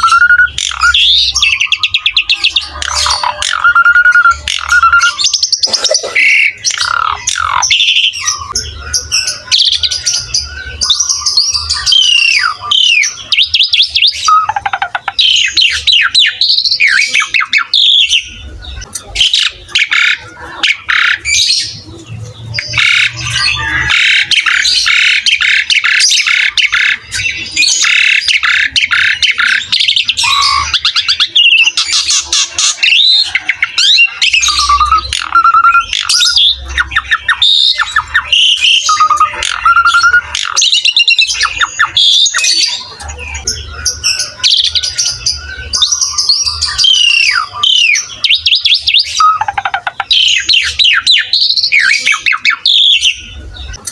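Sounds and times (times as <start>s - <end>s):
starling singing chattering notes: 0.0s - 53.9s.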